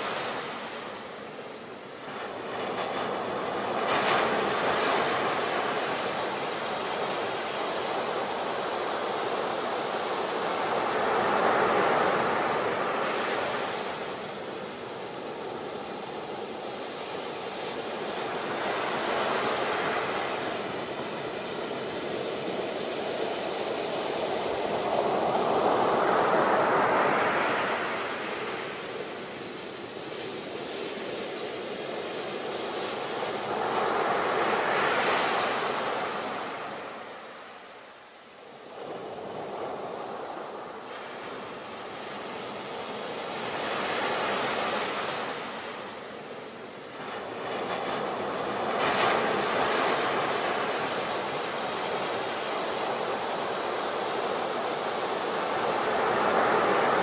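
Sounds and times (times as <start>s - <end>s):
rushing hiss of surf: 0.0s - 57.0s
waves crashing on beach: 0.0s - 57.0s.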